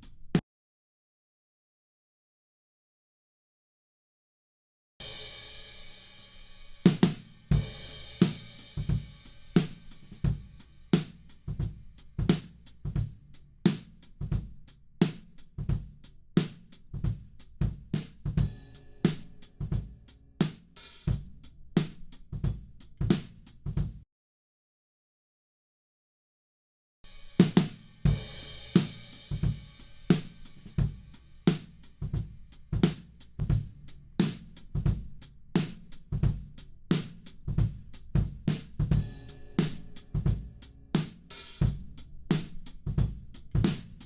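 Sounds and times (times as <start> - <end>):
drum kit groove: 0.0 - 0.4, 5.0 - 24.0, 27.1 - 44.0.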